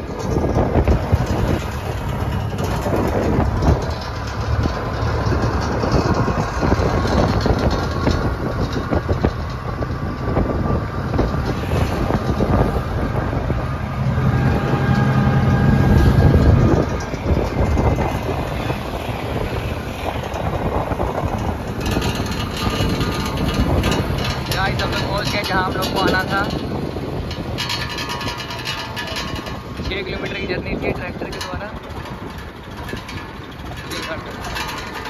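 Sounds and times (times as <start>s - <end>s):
rumble and rattle of travel: 0.0s - 35.0s
vehicle engine running: 0.0s - 35.0s.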